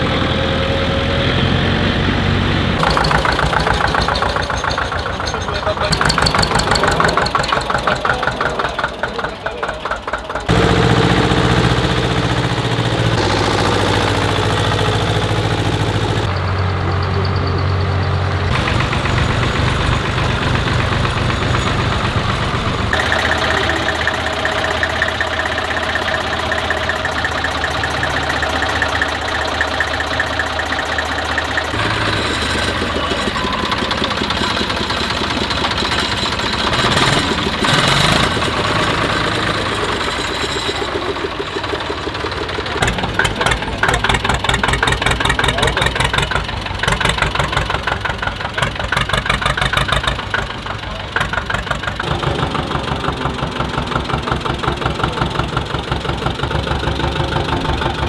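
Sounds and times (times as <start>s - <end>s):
tractors driving past: 0.0s - 58.0s.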